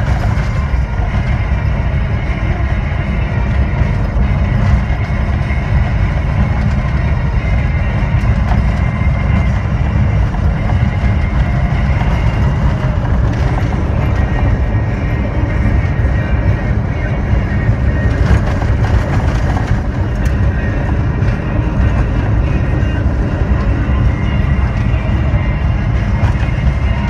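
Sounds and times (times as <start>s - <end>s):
faint steady whine: 0.0s - 27.0s
vehicle engine rumble: 0.0s - 27.0s.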